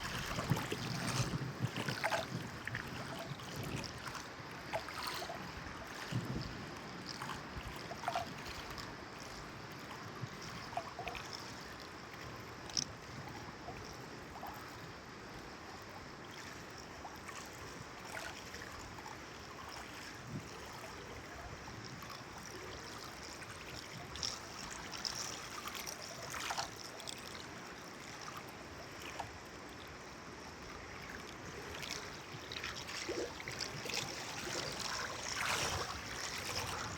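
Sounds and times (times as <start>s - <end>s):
small splashes and drips: 0.0s - 36.9s
steady water rush: 0.0s - 36.9s
water lapping and trickling: 0.0s - 36.9s.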